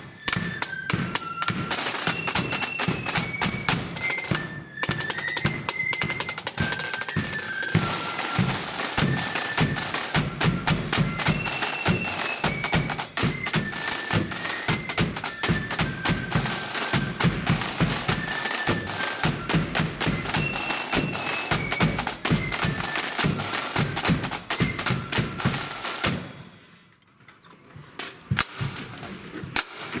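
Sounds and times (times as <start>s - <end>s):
flute band playing: 0.0s - 26.6s
snare and bass drum beats: 0.0s - 26.6s.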